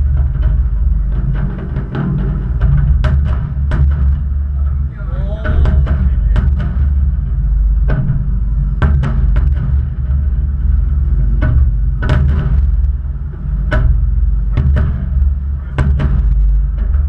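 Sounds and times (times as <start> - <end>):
low rumble of booms: 0.0 - 17.0.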